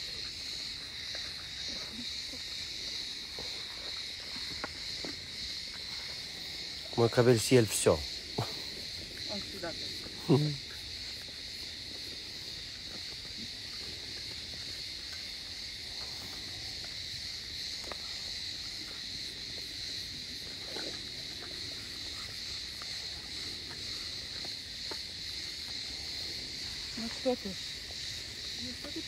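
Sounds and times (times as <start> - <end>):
insects chorus: 0.0 - 29.0.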